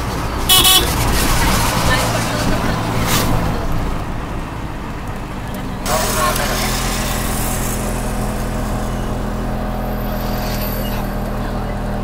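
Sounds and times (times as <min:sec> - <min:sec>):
autorickshaw engine running: 0:00.0 - 0:12.0
road noise: 0:00.0 - 0:12.0.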